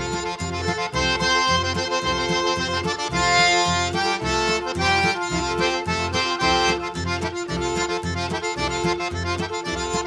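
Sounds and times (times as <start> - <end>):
accordion tune: 0.0 - 10.0.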